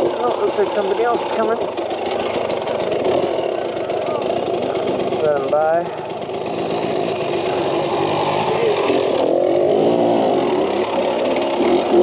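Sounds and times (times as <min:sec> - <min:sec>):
dirt bike engine idling: 0:00.0 - 0:12.0
dirt bike riding past: 0:00.0 - 0:12.0.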